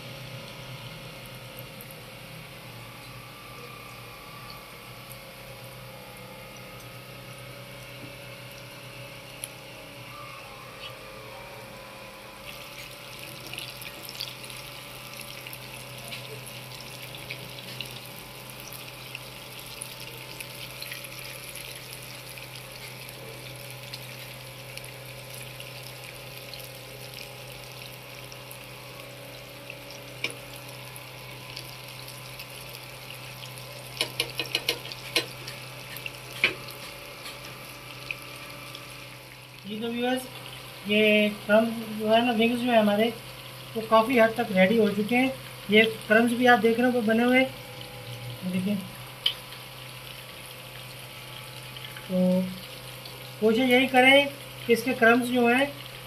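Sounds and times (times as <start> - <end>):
oil sizzling and crackling: 0.0 - 9.8, 12.3 - 56.0
low steady hum: 0.0 - 56.0.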